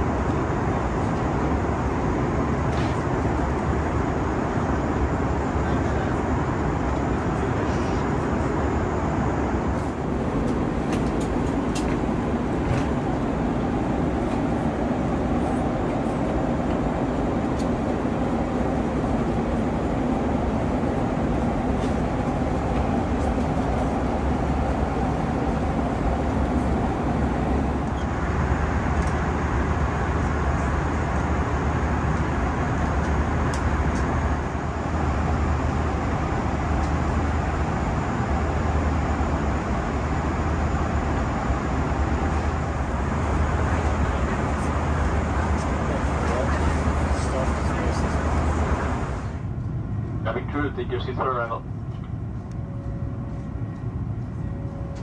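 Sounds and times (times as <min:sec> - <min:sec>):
airplane cabin engine rush: 0:00.0 - 0:55.0.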